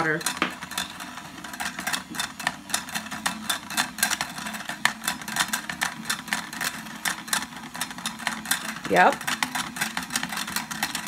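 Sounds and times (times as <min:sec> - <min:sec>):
clicks and rattles: 0:00.0 - 0:11.0
toy washing machine motor humming: 0:00.0 - 0:11.0.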